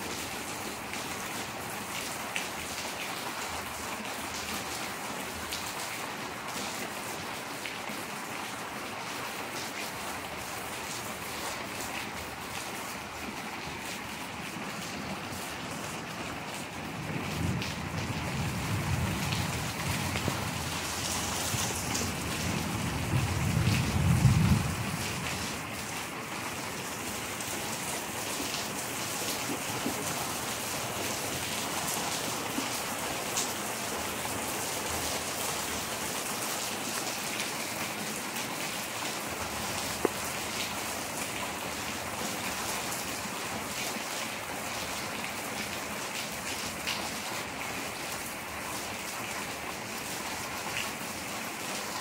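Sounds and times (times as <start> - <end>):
heavy rain on concrete: 0.0 - 52.0.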